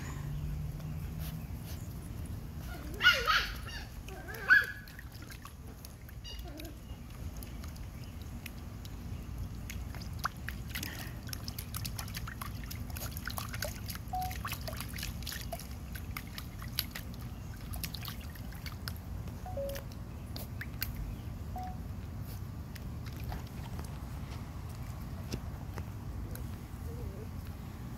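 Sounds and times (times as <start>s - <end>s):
puppy splashing in water bowl: 0.0s - 27.6s.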